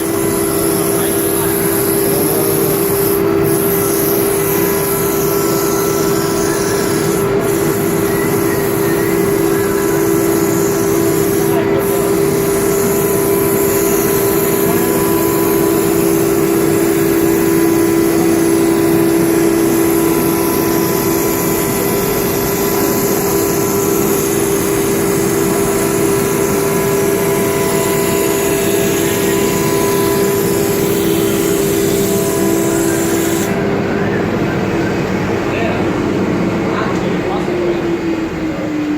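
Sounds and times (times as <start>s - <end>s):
mechanical hiss: 0.0s - 33.7s
router spindle whine: 0.0s - 38.9s.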